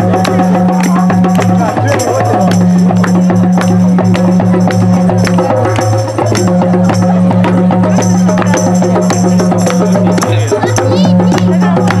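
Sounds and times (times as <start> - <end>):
quick percussion beat: 0.0 - 12.0.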